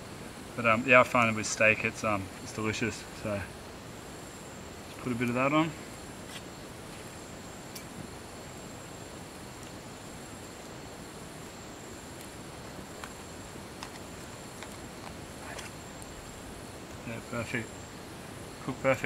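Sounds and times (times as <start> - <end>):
background hiss: 0.0 - 19.0
night insects chirring: 0.0 - 19.0.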